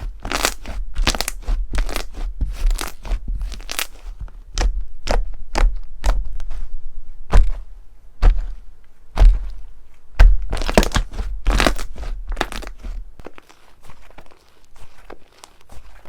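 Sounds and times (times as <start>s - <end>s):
crunchy slime crackling: 0.0s - 6.6s, 7.3s - 16.0s.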